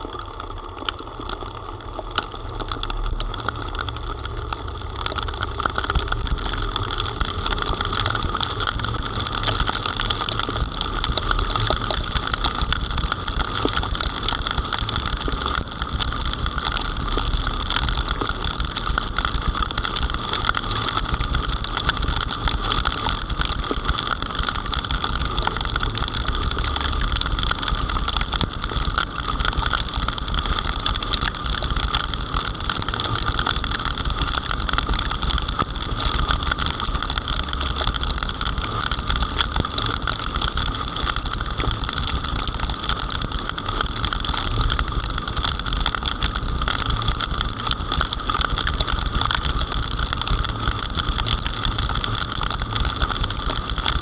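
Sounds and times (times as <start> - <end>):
heavy rain: 0.0 - 54.0
patter of raindrops: 0.0 - 54.0.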